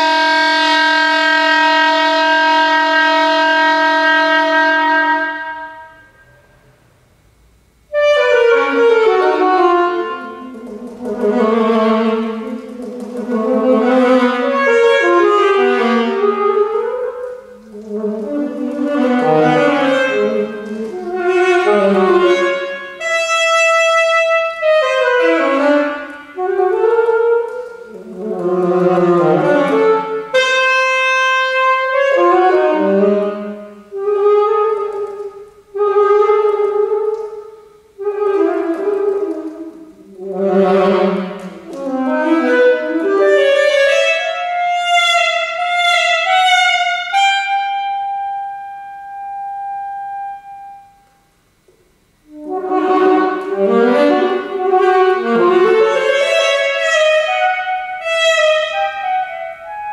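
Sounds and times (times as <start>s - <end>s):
solo saxophone playing: 0.0s - 6.8s, 7.4s - 59.9s.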